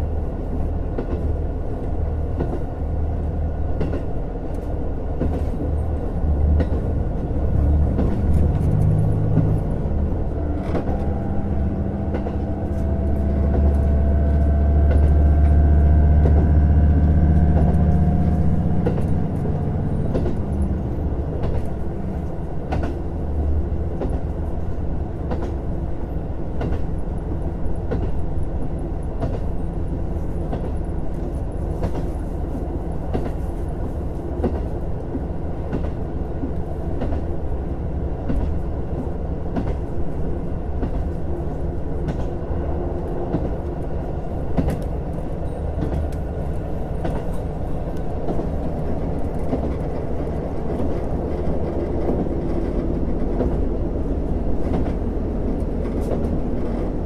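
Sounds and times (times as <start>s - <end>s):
diesel engine low drone: 0.0s - 57.0s.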